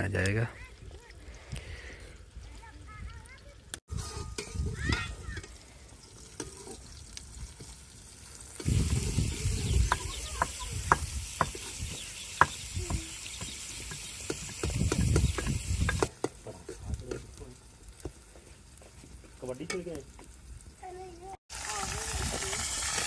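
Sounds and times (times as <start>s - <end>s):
food sizzling in a pot: 3.4s - 23.0s.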